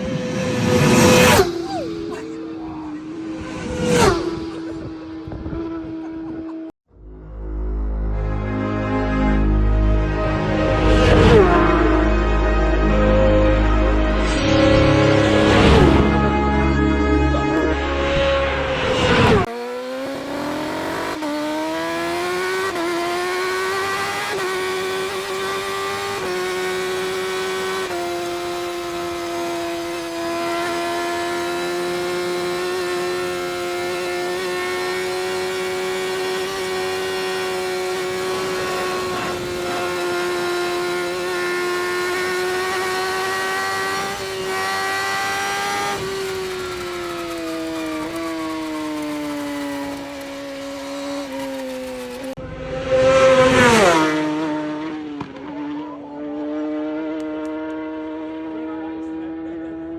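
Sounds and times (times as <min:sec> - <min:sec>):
racing motorcycle engine revving: 0:00.0 - 0:06.7, 0:10.0 - 0:59.9.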